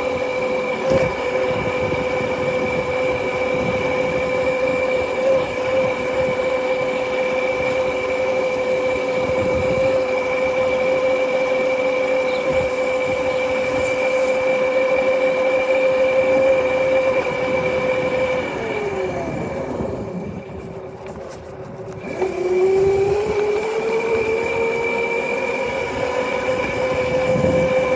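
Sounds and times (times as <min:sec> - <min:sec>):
motorcycle engine whining: 0:00.0 - 0:27.9.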